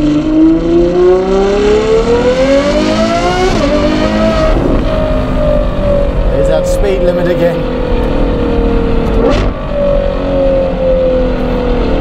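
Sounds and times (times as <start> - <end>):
sports car engine accelerating: 0.0 - 12.0.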